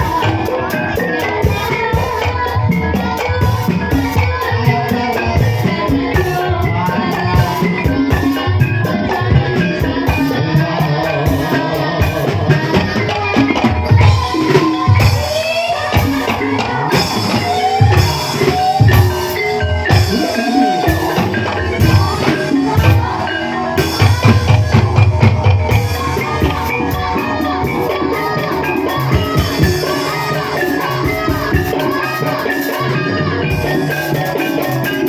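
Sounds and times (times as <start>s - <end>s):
hand drumming: 0.0s - 35.0s
tuned percussion melody: 0.0s - 35.0s.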